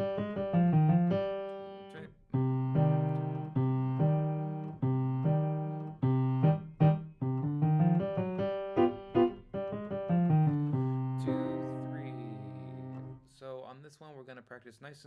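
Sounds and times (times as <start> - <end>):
slow piano accompaniment: 0.0 - 13.2.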